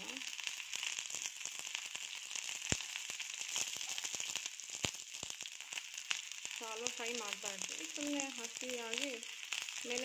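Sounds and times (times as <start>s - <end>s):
onions sizzling on griddle: 0.0s - 10.0s.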